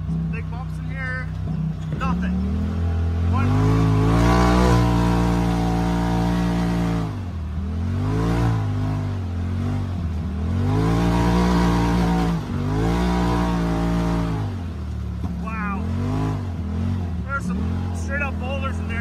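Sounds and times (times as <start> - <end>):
engine revving under throttle: 0.0 - 19.0.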